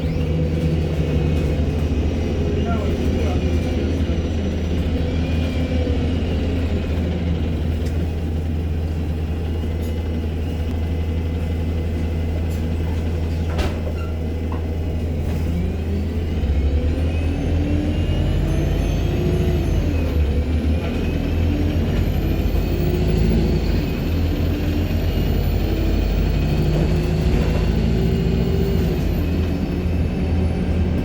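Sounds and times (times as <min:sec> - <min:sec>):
bus diesel engine humming: 0:00.0 - 0:31.0.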